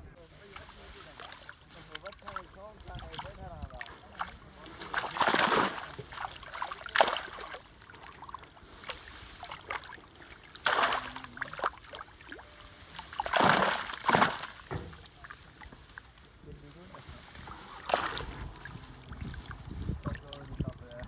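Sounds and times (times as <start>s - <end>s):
fish splashing in water: 0.5s - 21.0s.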